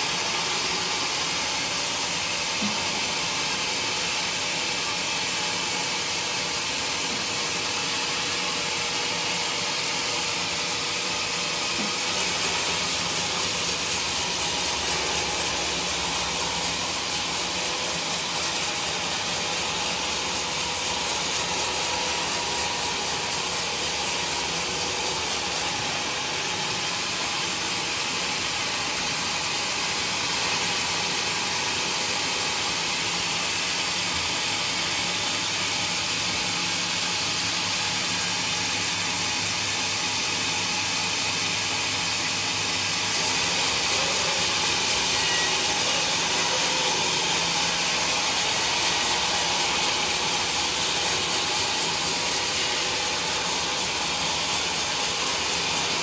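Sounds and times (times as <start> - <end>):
band saw cutting log: 0.0 - 38.5, 39.1 - 56.0.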